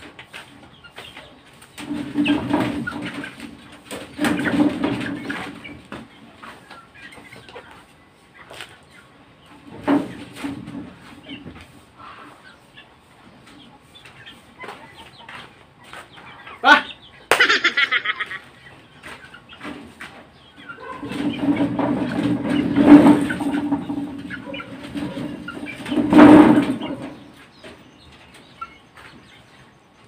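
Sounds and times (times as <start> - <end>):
chicken cage scraping and rattling: 0.0 - 16.6, 17.9 - 30.0
chickens clucking: 0.0 - 30.0.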